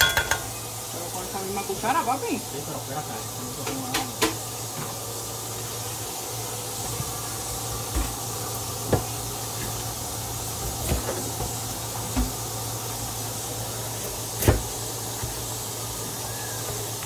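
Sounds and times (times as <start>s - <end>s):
food hissing on stove: 0.1s - 17.0s.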